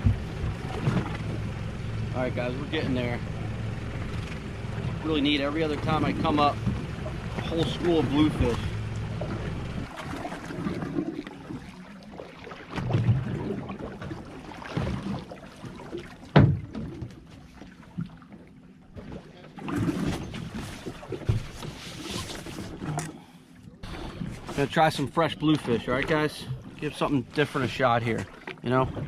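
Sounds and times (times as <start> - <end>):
water moving around boat: 0.0 - 29.0.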